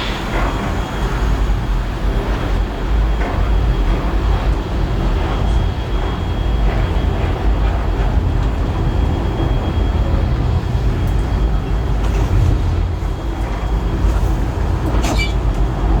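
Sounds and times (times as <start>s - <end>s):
train carriage rumbling: 0.0s - 16.0s.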